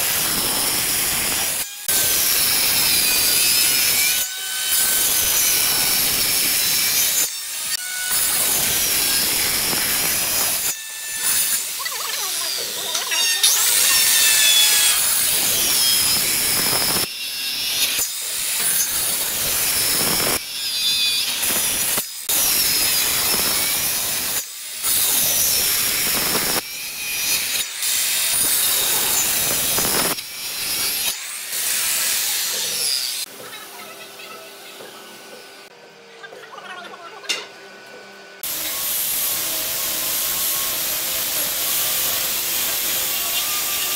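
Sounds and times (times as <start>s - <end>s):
circular saw cutting wood: 0.0s - 35.8s, 37.7s - 43.9s.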